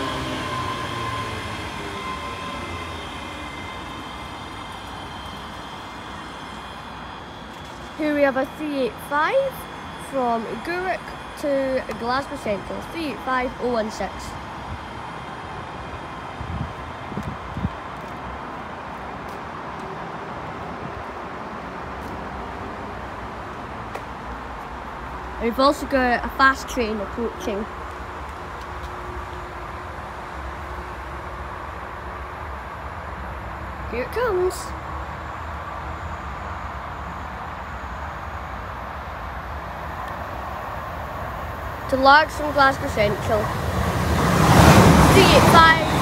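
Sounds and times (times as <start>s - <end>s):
electric train passing: 0.0s - 46.0s.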